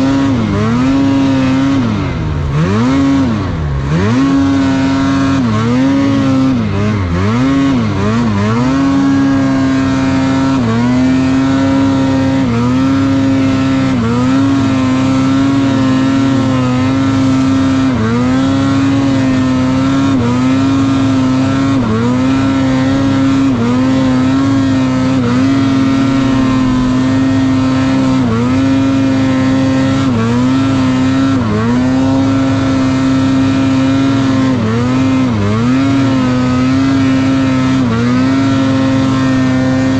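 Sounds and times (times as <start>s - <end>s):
snowmobile engine at high revs: 0.0s - 39.9s.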